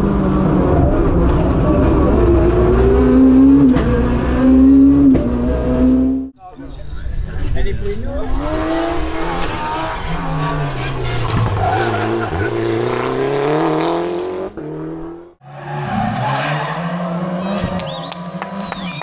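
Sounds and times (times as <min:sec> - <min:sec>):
rally car engine revving: 0:00.0 - 0:06.3, 0:07.8 - 0:19.0.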